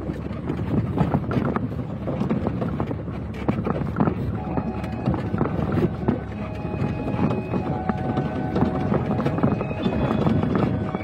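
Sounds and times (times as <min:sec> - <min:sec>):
diesel engine running: 0:00.0 - 0:11.0
vehicle body knocks and rattles: 0:00.0 - 0:11.0.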